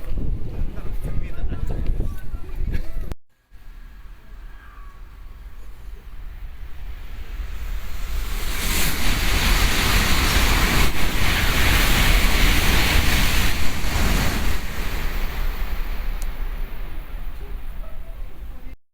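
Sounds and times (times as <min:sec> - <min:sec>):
high-speed train passing: 0:03.4 - 0:18.8.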